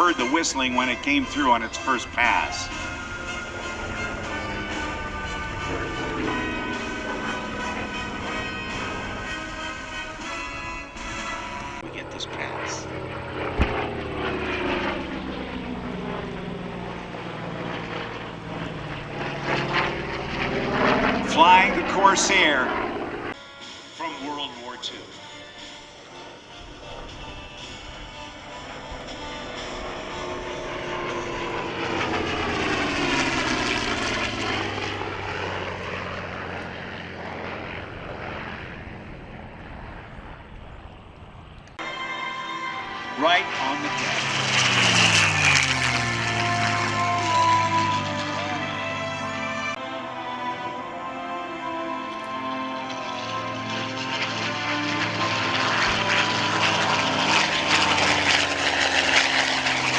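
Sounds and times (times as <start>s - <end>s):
propeller plane passing: 0.0s - 59.9s.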